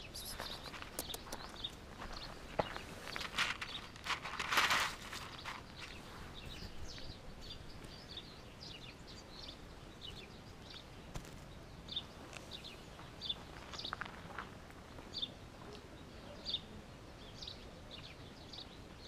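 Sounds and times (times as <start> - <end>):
small birds chirping: 0.0 - 14.4, 15.0 - 19.0
faint outdoor background: 0.0 - 19.0.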